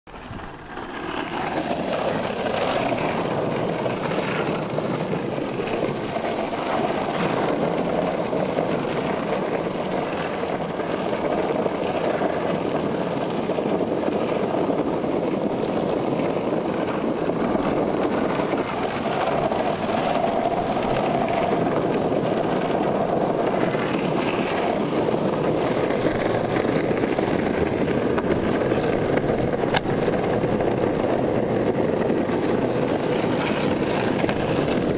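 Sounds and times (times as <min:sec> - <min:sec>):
longboard wheels rolling on asphalt: 0:00.1 - 0:34.9.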